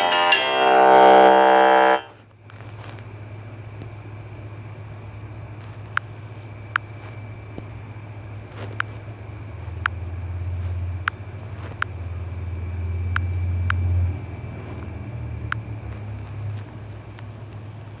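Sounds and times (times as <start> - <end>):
motor vehicle rumble: 1.3 - 18.0.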